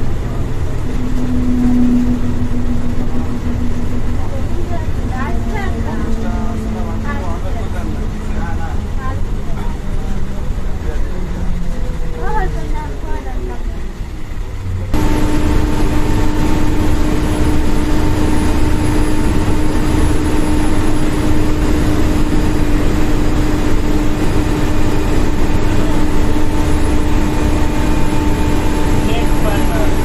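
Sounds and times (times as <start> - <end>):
constant low hum: 0.0 - 30.0
road noise: 0.0 - 30.0
vehicle engine drone: 0.0 - 30.0.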